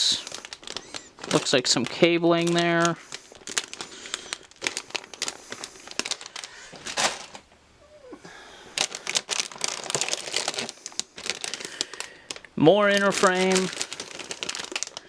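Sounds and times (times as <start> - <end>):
plastic bags crinkling: 0.0 - 7.5, 8.7 - 15.0.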